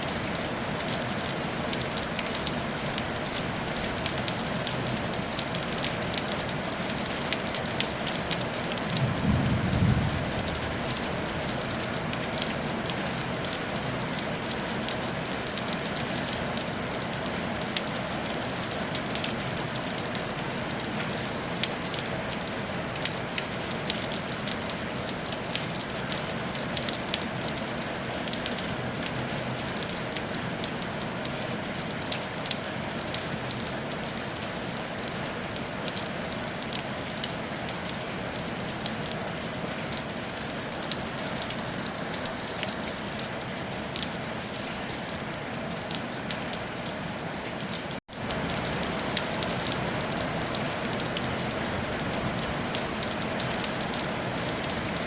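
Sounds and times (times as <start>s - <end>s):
rain on a tile roof: 0.0s - 55.0s.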